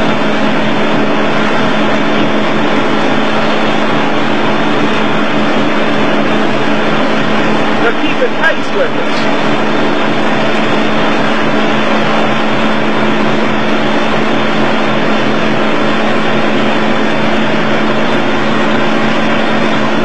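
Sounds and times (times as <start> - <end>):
boat engine humming: 0.0 - 20.0
loud rushing noise: 0.0 - 20.0.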